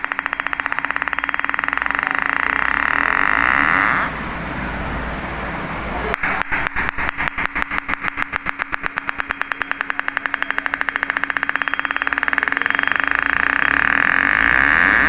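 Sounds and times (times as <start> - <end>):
metal ball bouncing: 0.0 - 3.4, 6.2 - 15.0.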